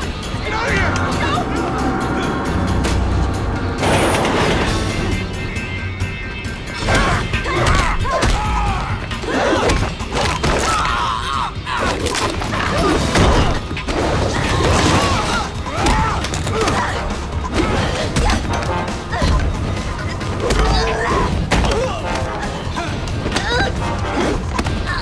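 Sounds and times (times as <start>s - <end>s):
dramatic music: 0.0s - 25.0s.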